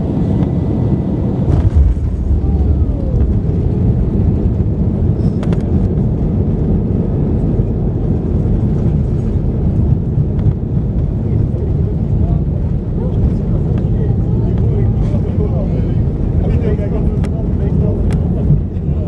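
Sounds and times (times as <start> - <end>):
low rumble in aircraft cabin: 0.0 - 19.0.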